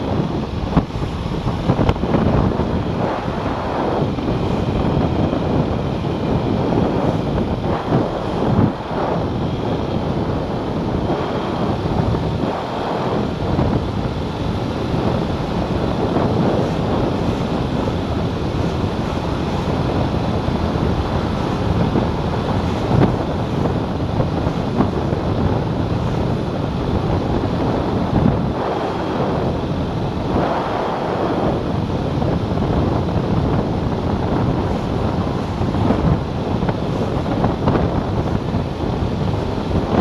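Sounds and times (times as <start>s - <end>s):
wind rush on microphone: 0.0s - 40.0s.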